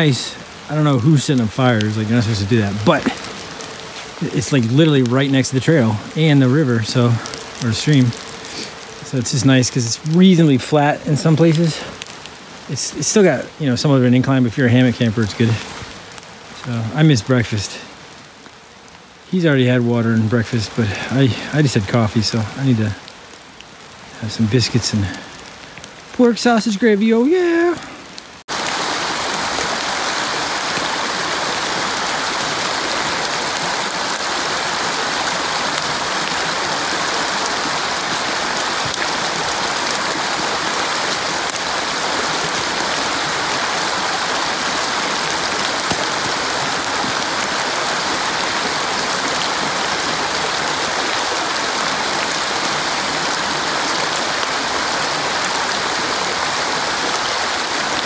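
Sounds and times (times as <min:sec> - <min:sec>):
creek running over stones: 0:00.0 - 0:58.0.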